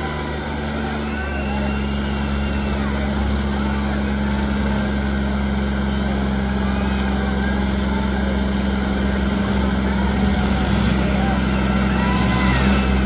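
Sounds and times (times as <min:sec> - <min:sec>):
faint voices: 0:00.0 - 0:13.0
tractor diesel engines running: 0:00.0 - 0:13.0.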